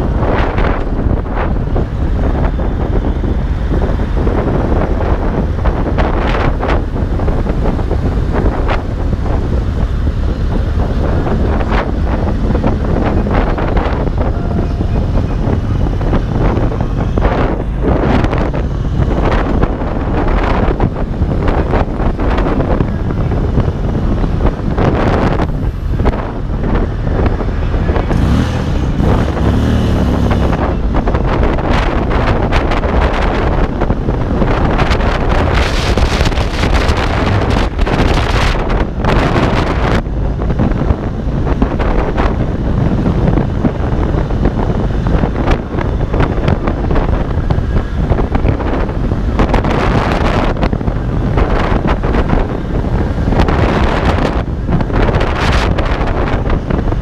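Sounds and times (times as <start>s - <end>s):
motorcycle engine running: 0.0s - 57.0s
road noise: 0.0s - 57.0s
wind buffeting microphone: 0.0s - 57.0s.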